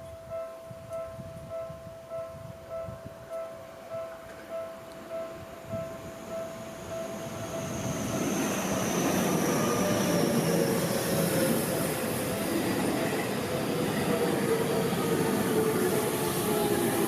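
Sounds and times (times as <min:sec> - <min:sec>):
level crossing warning bell: 0:00.0 - 0:17.0
train wheel and rail noise: 0:00.0 - 0:17.0.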